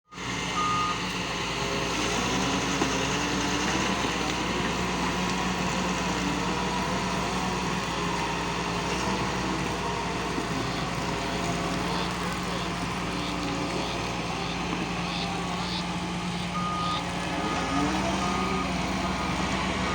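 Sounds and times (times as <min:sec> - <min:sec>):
excavator diesel engine running: 0:00.1 - 0:19.9.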